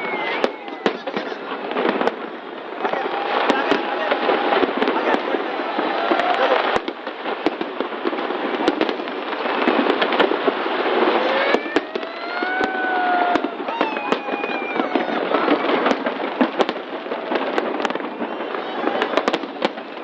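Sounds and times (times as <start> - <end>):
fireworks bangs: 0.0 - 20.0
fireworks crackling: 0.0 - 20.0
rising firework whistles: 0.0 - 20.0.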